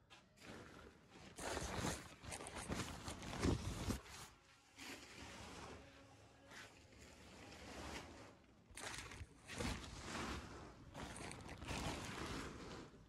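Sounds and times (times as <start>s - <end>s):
rustling and scraping: 0.1s - 5.8s, 6.4s - 13.0s.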